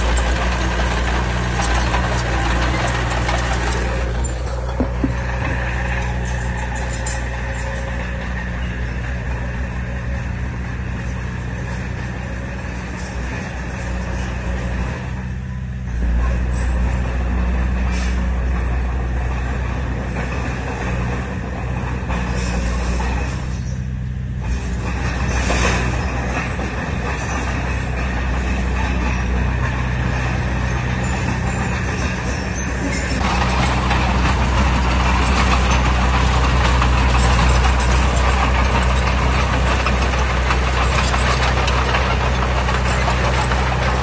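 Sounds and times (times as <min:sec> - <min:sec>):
heavy diesel engine droning: 0:00.0 - 0:44.0.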